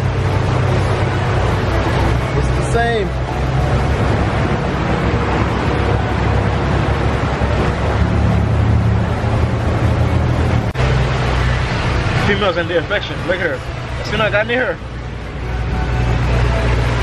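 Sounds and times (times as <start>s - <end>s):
boat engine droning: 0.0s - 17.0s
water churning in boat wake: 0.0s - 17.0s.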